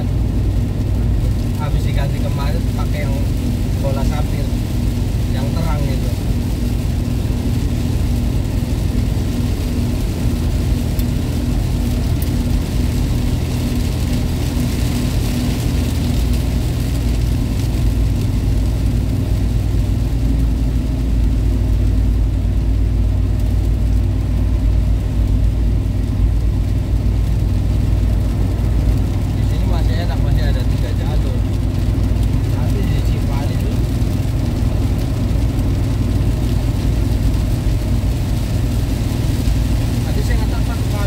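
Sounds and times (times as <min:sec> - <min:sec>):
car engine and road noise: 0:00.0 - 0:41.0
heavy rain on car: 0:00.0 - 0:41.0
tyres on wet road: 0:00.0 - 0:41.0.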